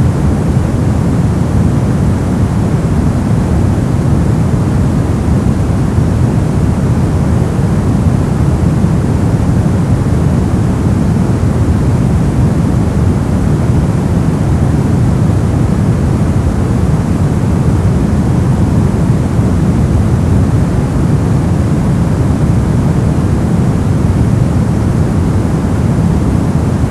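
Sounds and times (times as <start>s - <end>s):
pink noise hiss: 0.0s - 26.9s.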